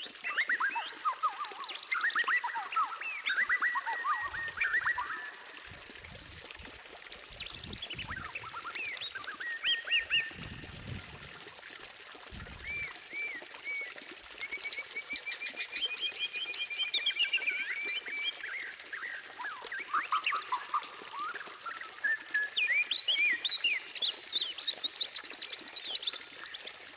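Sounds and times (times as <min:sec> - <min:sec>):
bird singing whistled phrases: 0:00.2 - 0:05.5, 0:07.2 - 0:10.6, 0:12.5 - 0:26.2.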